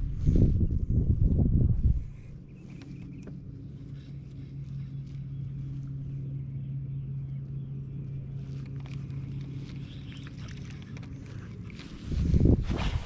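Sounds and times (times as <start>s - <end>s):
boat motor humming: 0.9s - 13.0s.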